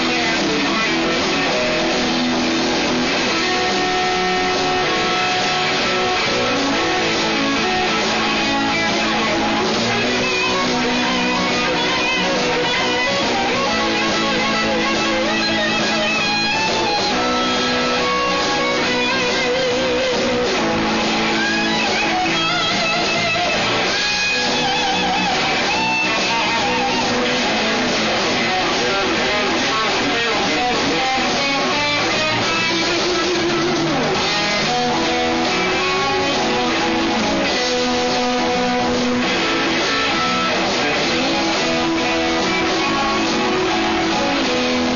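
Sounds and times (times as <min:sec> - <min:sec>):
electric blues band playing: 0:00.0 - 0:44.9
electric guitar lead bent notes: 0:00.0 - 0:44.9.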